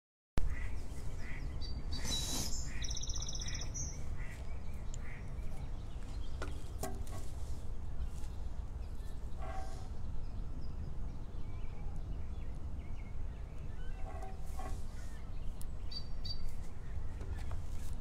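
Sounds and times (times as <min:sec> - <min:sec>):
birds calling: 0:00.4 - 0:18.0.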